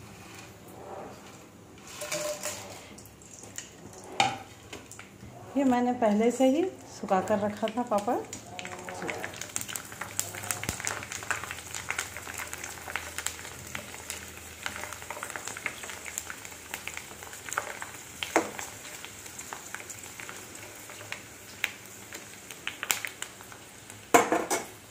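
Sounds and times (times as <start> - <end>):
frying in hot oil: 1.7 - 24.9.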